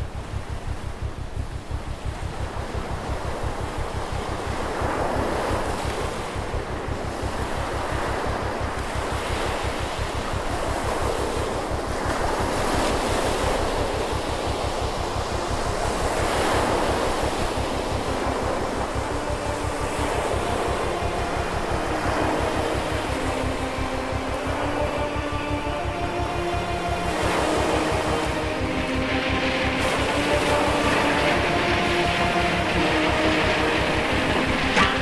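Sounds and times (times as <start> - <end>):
small waves washing on shore: 1.8 - 35.0.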